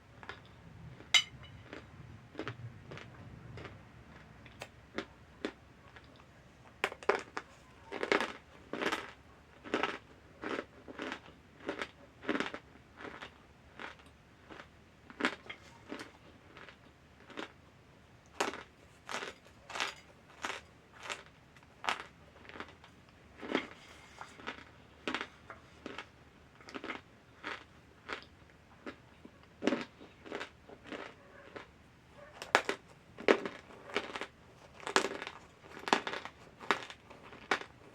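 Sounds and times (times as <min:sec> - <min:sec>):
person chewing crunchy food: 0:00.2 - 0:37.9.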